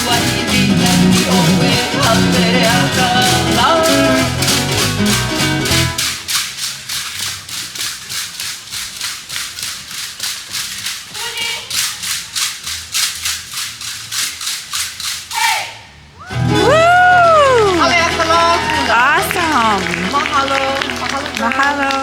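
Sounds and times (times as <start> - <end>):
percussion rattle shaken: 0.0 - 16.1, 17.5 - 22.0.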